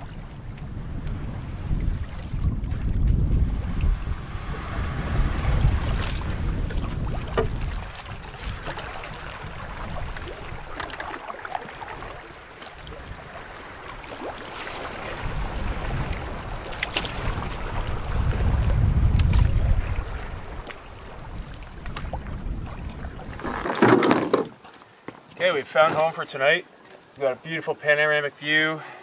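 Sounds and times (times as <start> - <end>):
wind buffeting microphone: 0.0 - 23.8
water lapping against hull: 0.0 - 25.9
paddle splashes: 0.0 - 27.0.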